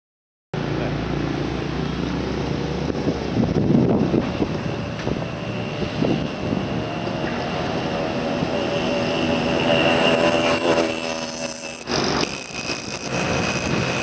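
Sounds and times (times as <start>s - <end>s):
vehicle engine and road noise: 0.6s - 14.0s
wavering low hum: 0.6s - 14.0s.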